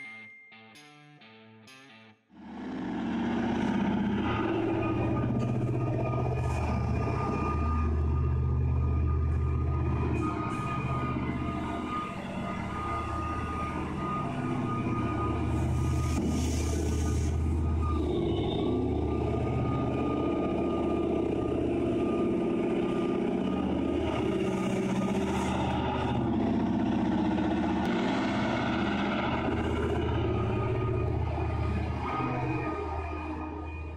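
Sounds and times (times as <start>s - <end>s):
diesel engines running: 2.4s - 33.9s
steady high-pitched tone: 2.5s - 33.9s.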